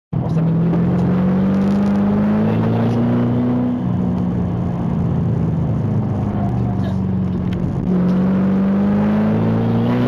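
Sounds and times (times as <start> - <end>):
car engine accelerating: 0.2 - 10.0.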